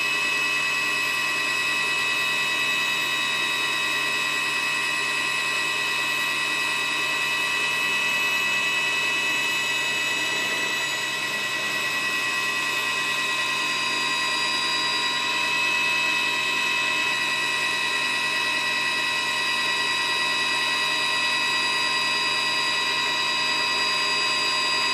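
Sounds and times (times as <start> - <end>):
helicopter turbine whine: 0.0 - 24.9.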